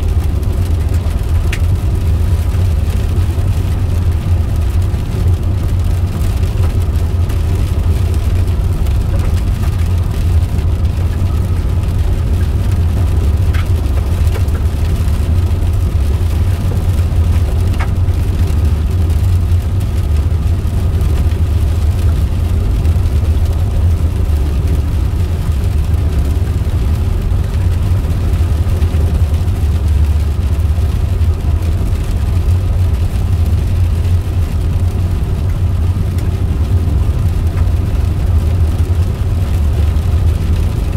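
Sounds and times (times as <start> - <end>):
car engine rumble and road noise: 0.0 - 40.9.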